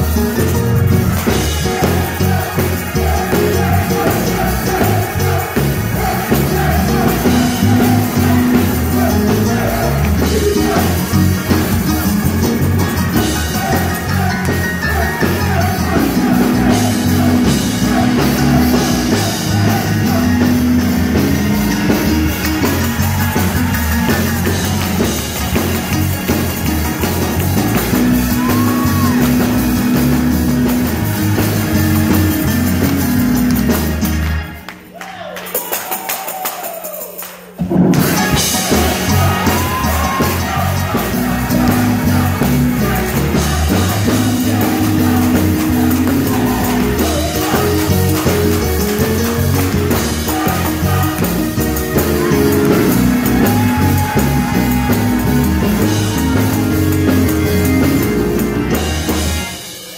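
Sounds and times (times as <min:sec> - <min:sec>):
gospel choir singing: 0:00.0 - 0:33.4, 0:37.8 - 0:59.7
heavy bass line: 0:00.0 - 0:34.0, 0:38.0 - 0:59.4
held chords: 0:00.0 - 0:34.5, 0:37.7 - 0:59.7.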